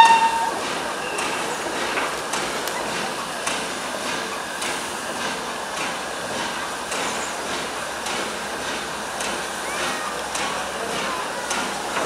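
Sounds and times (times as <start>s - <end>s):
sharp rail clicks: 0.0s - 12.0s
train rumbling along track: 0.0s - 12.0s.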